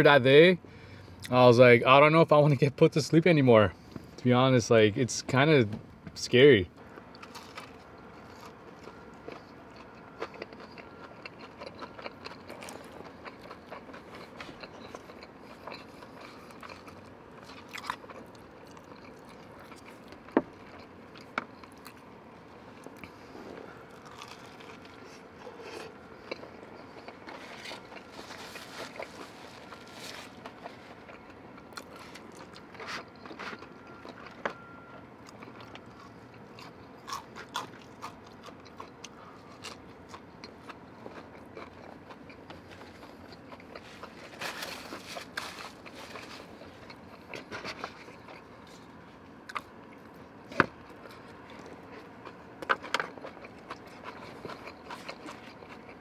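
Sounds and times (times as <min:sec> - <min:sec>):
man biting and chewing: 0:06.9 - 0:56.0.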